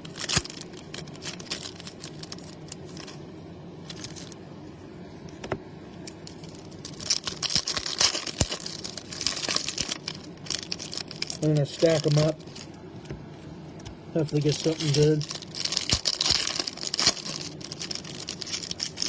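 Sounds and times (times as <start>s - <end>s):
card pack wrappers crinkling and tearing: 0.0s - 3.2s, 3.8s - 4.4s, 6.1s - 12.8s, 14.2s - 19.0s
cards handled with clicks and rustles: 0.0s - 3.2s, 3.8s - 4.4s, 5.2s - 13.2s, 13.8s - 19.0s.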